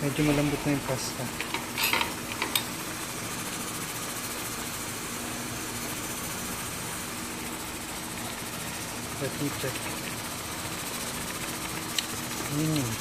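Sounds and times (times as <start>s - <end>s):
pots boiling: 0.0s - 13.0s
stove hum and hiss: 0.0s - 13.0s.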